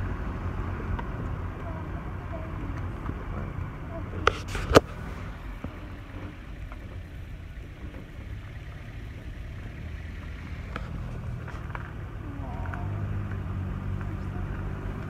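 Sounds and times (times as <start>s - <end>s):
car rumble from inside: 0.0s - 15.0s.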